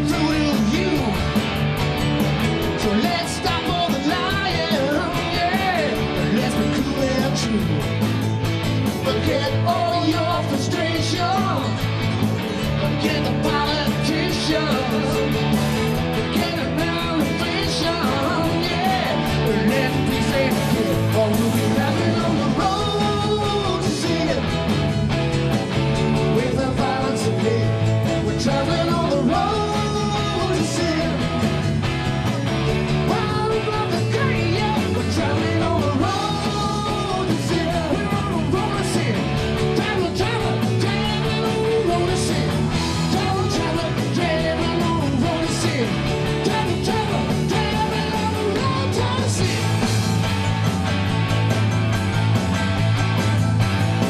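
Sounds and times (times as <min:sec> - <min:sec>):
person singing lead vocals: 0:00.0 - 0:01.4, 0:02.6 - 0:08.0, 0:08.8 - 0:24.9, 0:25.8 - 0:31.7, 0:32.6 - 0:50.2
bass guitar: 0:00.0 - 0:54.0
electric guitars: 0:00.0 - 0:54.0
keyboard: 0:00.0 - 0:54.0.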